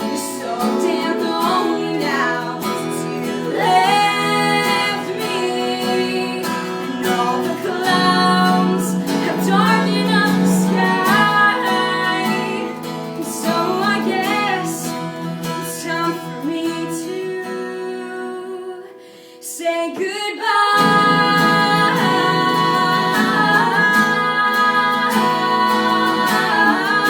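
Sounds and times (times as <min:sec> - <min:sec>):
strummed guitar: 0:00.0 - 0:19.0, 0:20.0 - 0:27.0
woman singing: 0:00.0 - 0:27.0.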